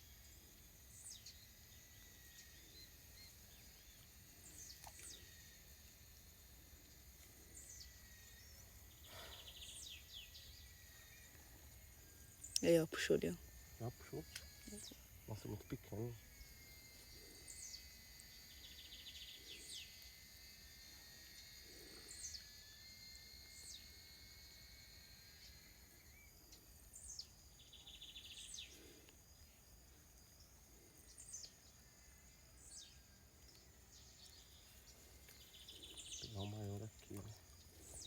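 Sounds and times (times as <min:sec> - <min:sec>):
insects buzzing: 0:00.0 - 0:38.0
rapid insect trill: 0:00.0 - 0:38.0.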